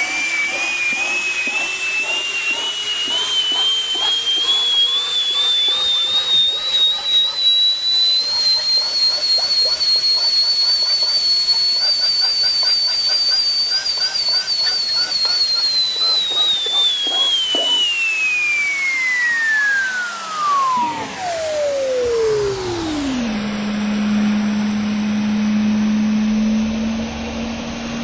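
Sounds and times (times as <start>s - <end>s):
vacuum cleaner motor whining: 0.0s - 28.0s.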